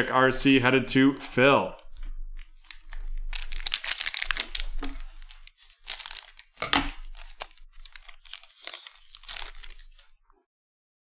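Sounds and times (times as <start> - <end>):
wrapper crinkling and tearing: 1.1 - 10.2.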